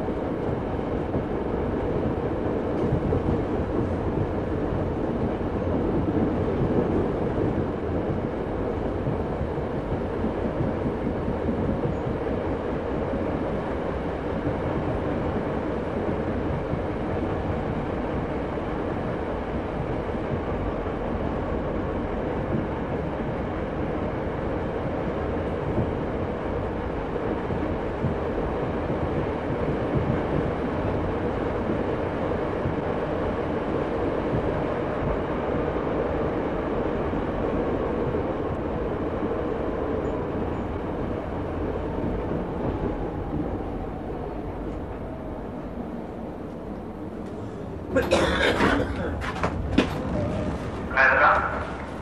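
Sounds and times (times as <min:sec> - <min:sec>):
diesel train engine rumble: 0:00.0 - 0:52.0.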